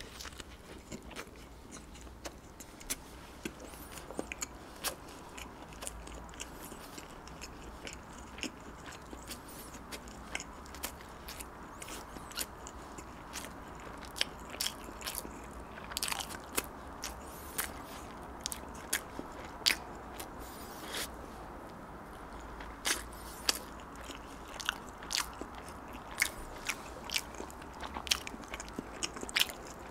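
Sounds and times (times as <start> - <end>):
chewing bread: 0.0 - 29.9.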